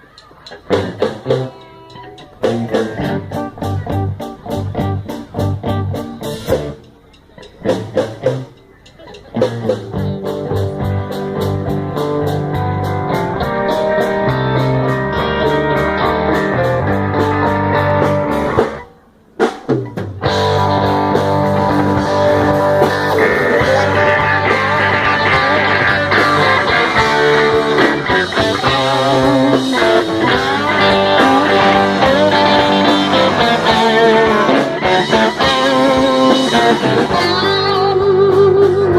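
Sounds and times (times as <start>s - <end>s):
electric guitar: 0.0s - 19.0s, 19.7s - 38.9s
rock band playing: 0.0s - 38.9s.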